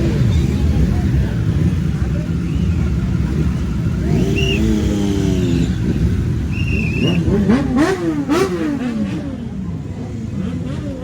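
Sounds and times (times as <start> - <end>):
motorcycle engine revving: 0.0 - 11.0
motorcycle engines rumbling: 0.0 - 11.0.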